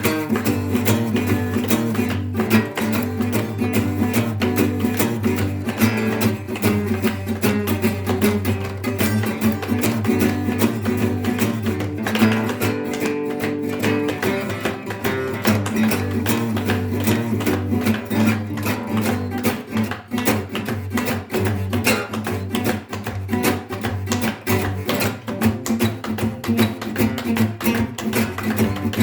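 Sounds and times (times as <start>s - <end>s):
guitar strummed rapidly: 0.0s - 29.0s.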